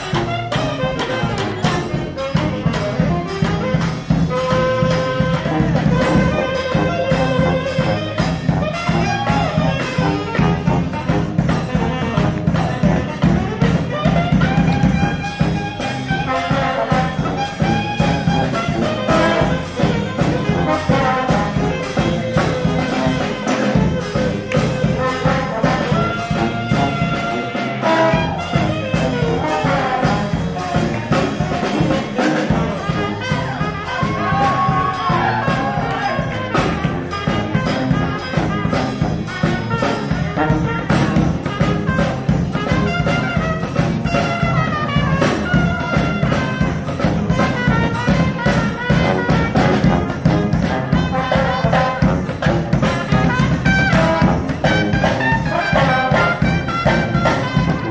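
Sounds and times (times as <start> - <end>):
brass band playing: 0.0 - 57.9
percussion beat: 0.0 - 57.9.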